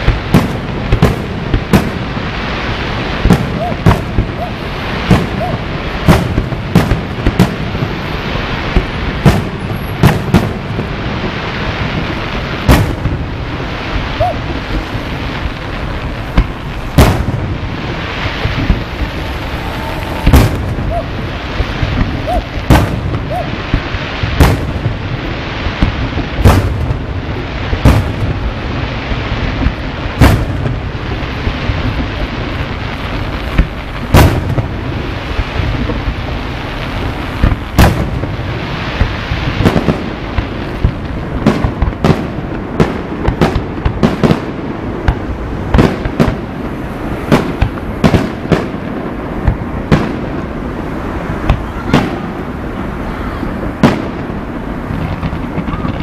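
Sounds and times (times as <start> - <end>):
continuous fireworks din: 0.0 - 56.0
fireworks booming bangs: 0.0 - 56.0.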